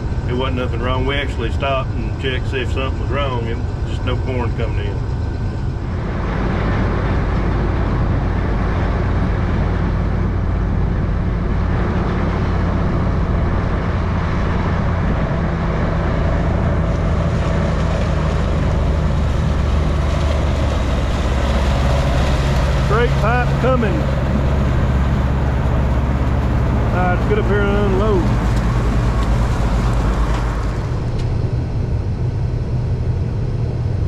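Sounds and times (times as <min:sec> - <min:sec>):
combine harvester engine drone: 0:00.0 - 0:34.0.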